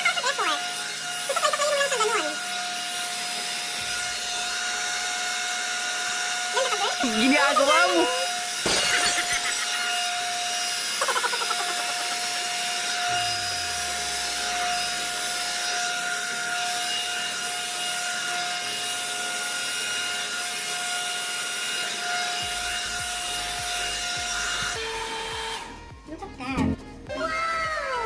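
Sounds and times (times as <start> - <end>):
hot air brush hair dryer whine: 0.0 - 26.1.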